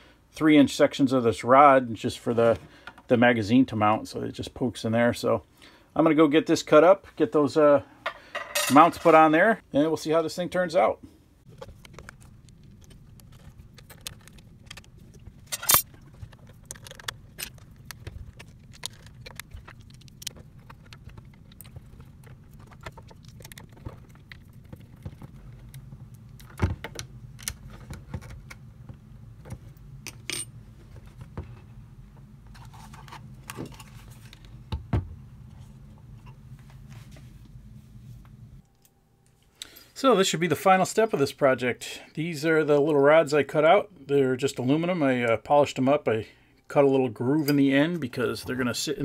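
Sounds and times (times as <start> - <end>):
steady low hum: 6.6 - 49.0.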